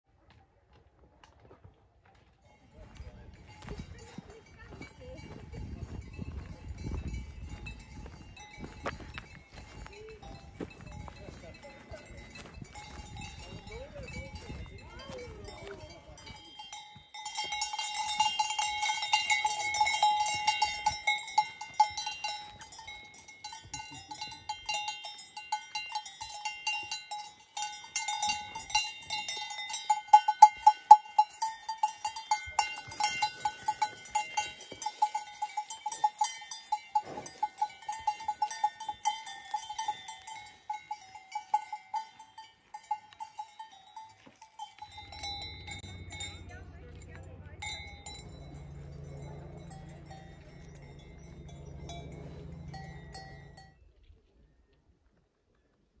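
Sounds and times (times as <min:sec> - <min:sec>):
cowbells clanking: 0:02.3 - 0:54.0
steady bell note: 0:02.7 - 0:53.8.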